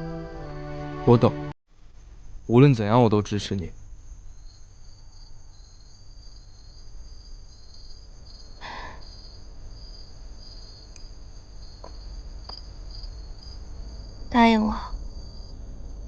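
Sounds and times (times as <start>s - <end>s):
crickets chirping: 1.8s - 16.0s.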